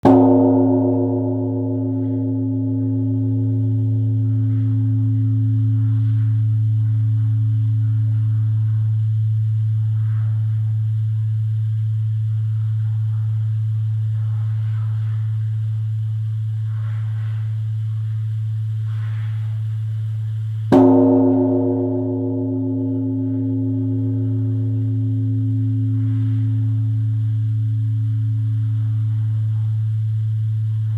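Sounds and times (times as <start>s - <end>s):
large bronze bell ringing: 0.0s - 30.9s
steady deep hum: 0.0s - 30.9s.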